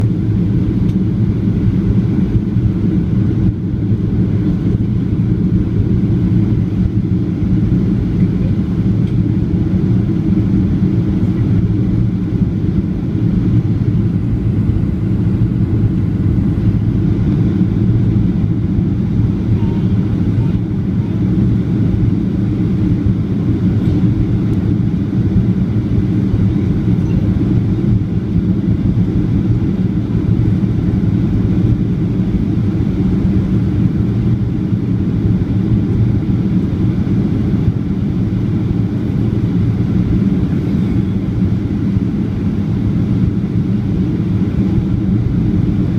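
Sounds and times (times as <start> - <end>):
airliner engines rumbling: 0.0 - 45.9.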